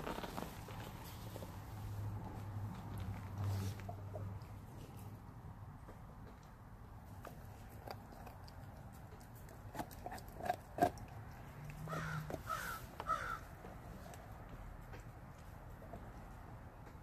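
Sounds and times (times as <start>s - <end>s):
dog gnawing and crunching bone: 0.0s - 17.0s.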